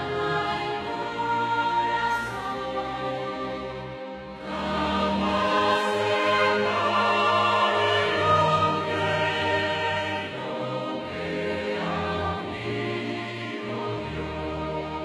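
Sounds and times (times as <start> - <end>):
choir singing a hymn: 0.0 - 15.0
orchestral backing: 0.0 - 15.0.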